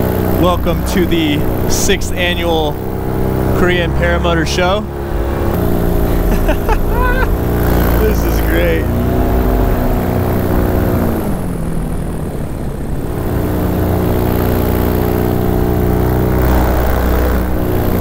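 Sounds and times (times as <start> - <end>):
paramotor engine and propeller: 0.0 - 18.0.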